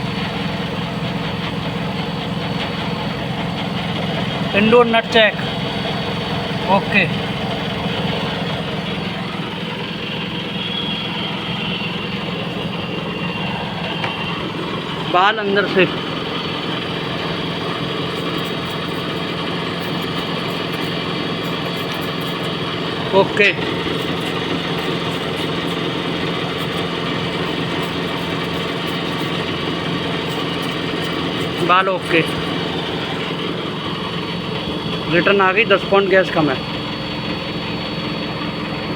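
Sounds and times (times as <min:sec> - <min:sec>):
air conditioner unit humming: 0:00.0 - 0:38.9.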